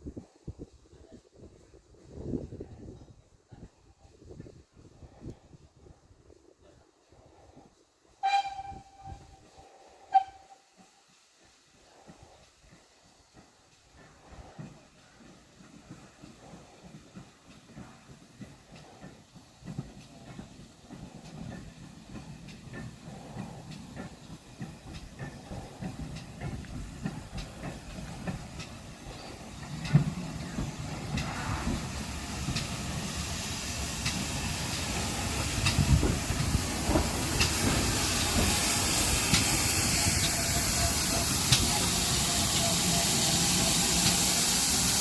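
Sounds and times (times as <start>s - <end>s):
steam locomotive hissing: 7.1s - 45.0s.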